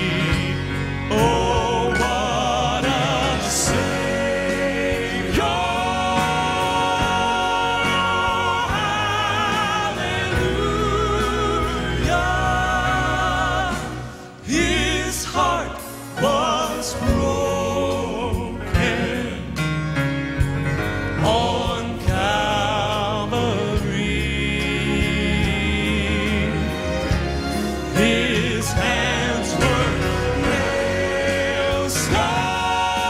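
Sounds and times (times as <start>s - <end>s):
male vocal quartet singing: 0.0s - 33.0s.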